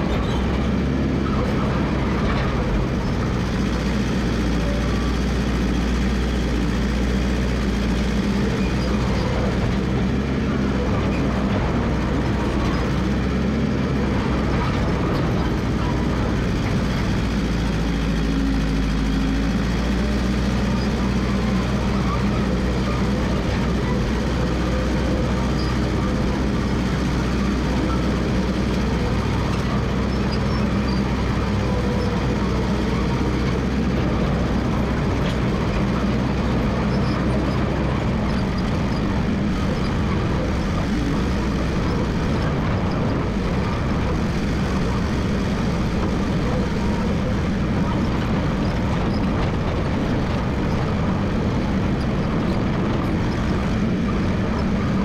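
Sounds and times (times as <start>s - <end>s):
dozer engine running: 0.0s - 55.0s.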